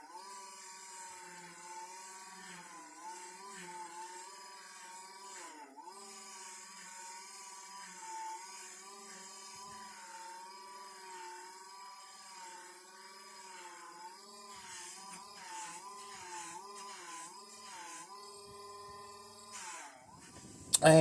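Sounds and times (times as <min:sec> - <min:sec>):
polishing wheel motor humming: 0:00.0 - 0:20.8.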